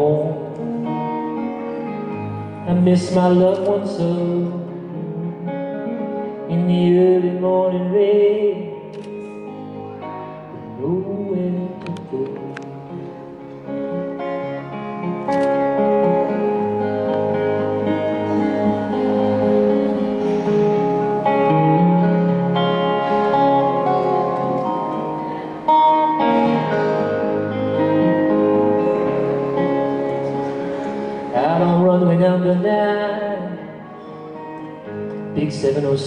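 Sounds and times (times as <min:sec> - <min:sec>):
acoustic and electric guitar: 0:00.0 - 0:36.0.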